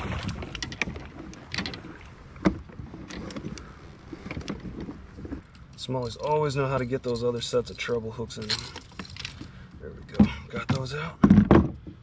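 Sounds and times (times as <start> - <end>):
clicks and knocks against kayak hull: 0.1 - 7.4, 8.4 - 12.0.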